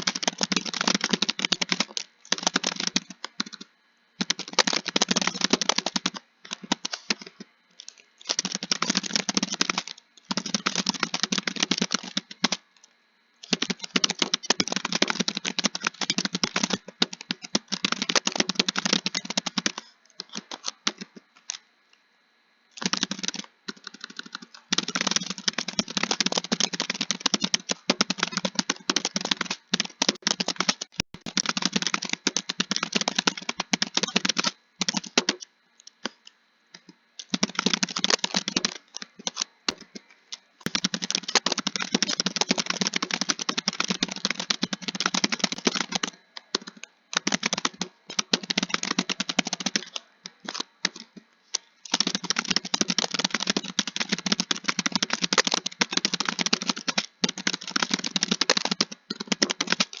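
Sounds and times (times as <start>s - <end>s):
fast typing on keyboard: 0.0s - 12.7s, 13.4s - 21.7s, 22.7s - 60.0s.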